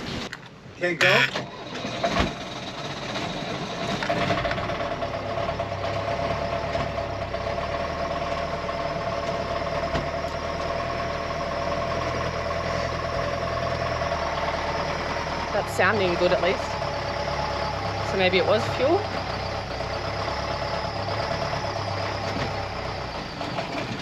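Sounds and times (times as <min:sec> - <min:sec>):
diesel boat engine starting and running: 0:00.0 - 0:24.0.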